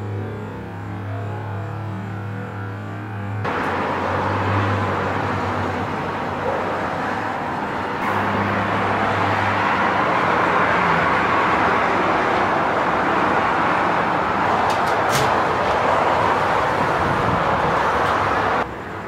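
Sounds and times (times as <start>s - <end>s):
highway traffic passing: 0.0s - 19.0s
low engine hum: 0.0s - 19.0s.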